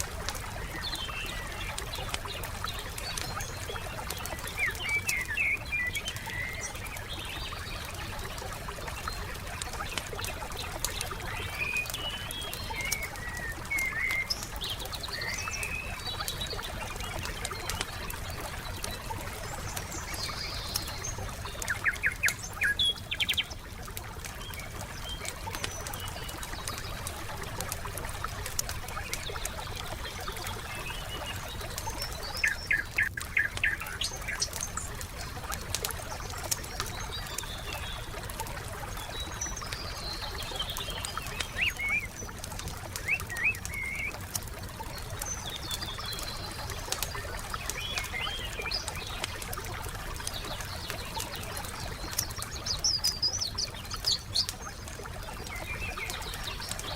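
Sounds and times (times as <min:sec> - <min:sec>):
campfire crackling and popping: 0:00.0 - 0:56.9
songbirds chirping: 0:00.0 - 0:56.9.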